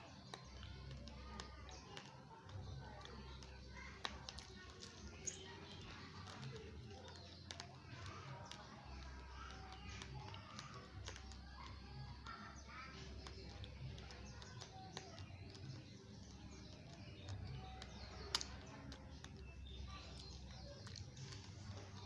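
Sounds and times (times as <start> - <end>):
chewing crunchy rice grains: 0.0 - 22.0.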